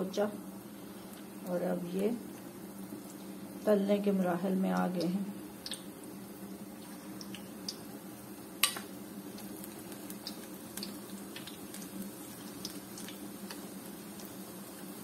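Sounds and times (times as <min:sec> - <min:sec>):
deep-frying sizzle with pops: 0:00.0 - 0:15.0.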